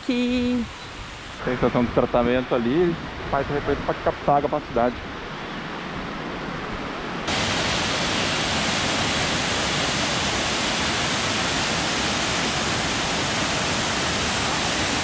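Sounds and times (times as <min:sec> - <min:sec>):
waterfall roaring: 0:00.0 - 0:05.2, 0:06.3 - 0:15.0.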